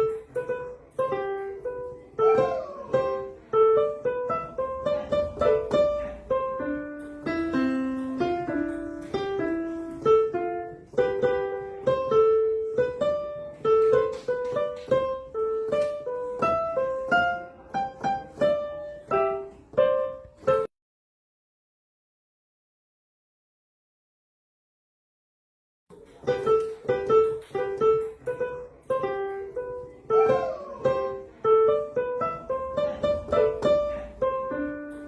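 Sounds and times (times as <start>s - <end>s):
light keyboard melody: 0.0s - 20.7s, 25.9s - 35.0s.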